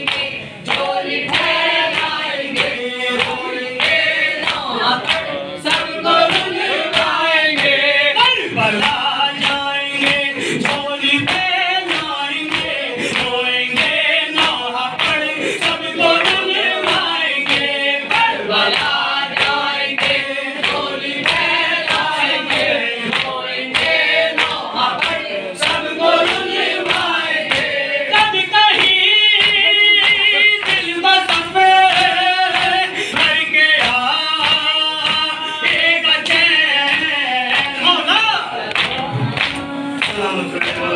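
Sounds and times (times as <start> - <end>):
men chanting in unison: 0.0 - 40.9
rhythmic chest-beating: 0.0 - 40.9.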